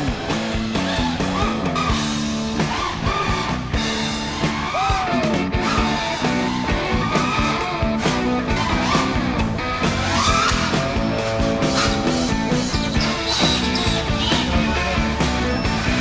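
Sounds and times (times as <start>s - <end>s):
rock music with guitar and drums: 0.0s - 16.0s.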